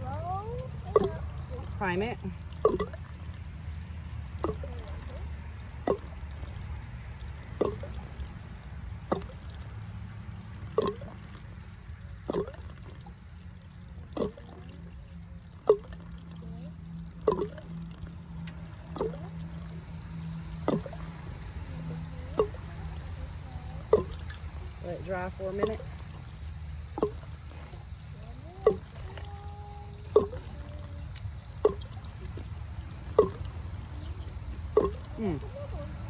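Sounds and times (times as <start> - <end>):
steady low hum: 0.0 - 36.0
water dripping into water: 0.0 - 36.0.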